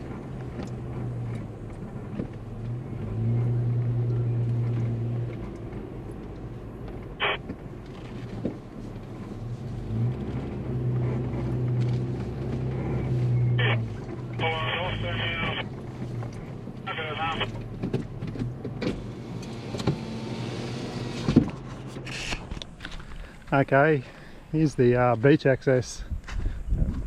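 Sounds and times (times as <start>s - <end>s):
vehicle engine running: 0.0s - 25.4s.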